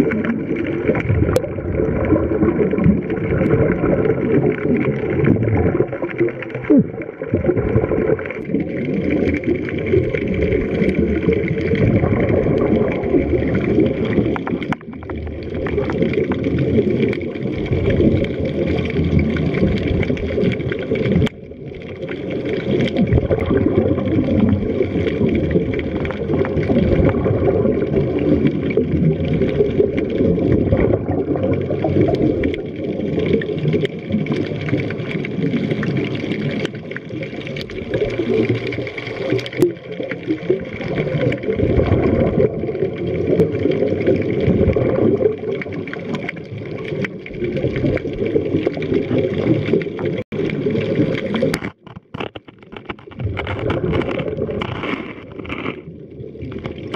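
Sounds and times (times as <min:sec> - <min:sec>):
muffled underwater bubbling: 0:00.0 - 0:56.9.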